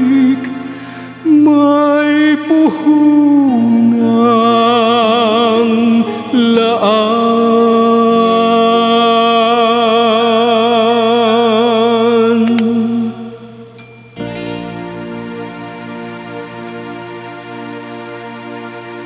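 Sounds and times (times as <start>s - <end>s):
man singing with vibrato: 0.0s - 15.3s
backing track: 0.0s - 19.0s.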